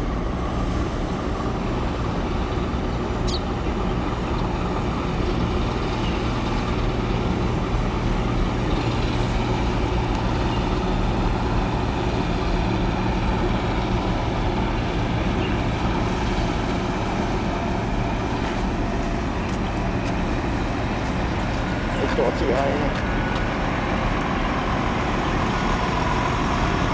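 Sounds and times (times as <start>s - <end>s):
marine diesel engines droning: 0.0s - 26.9s.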